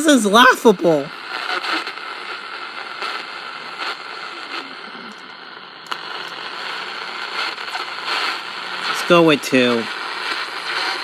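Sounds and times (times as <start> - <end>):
radio crackles: 0.0 - 11.0
radio static hiss: 0.0 - 11.0.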